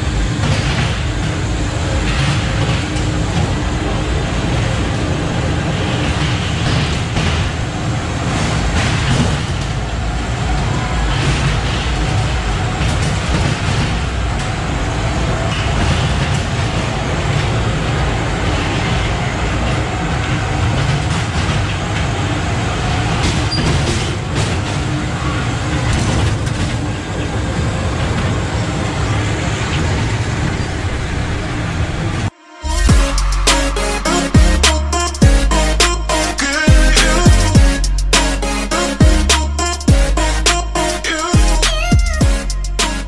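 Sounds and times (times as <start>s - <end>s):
ride car rumbling on track: 0.0s - 43.0s.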